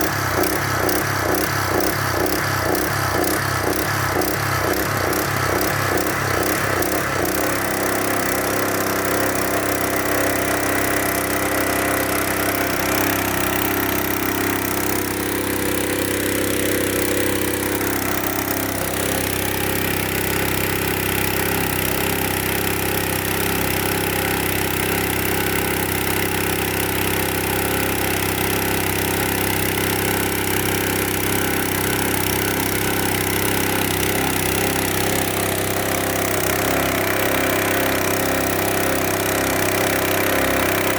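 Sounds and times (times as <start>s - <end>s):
pump engine running: 0.0s - 40.9s.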